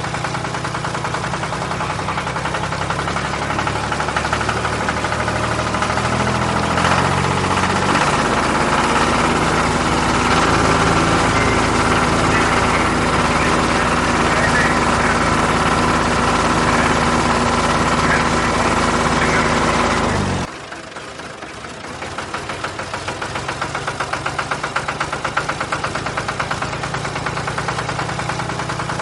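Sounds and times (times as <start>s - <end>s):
tractor engine knocking: 0.0s - 29.0s.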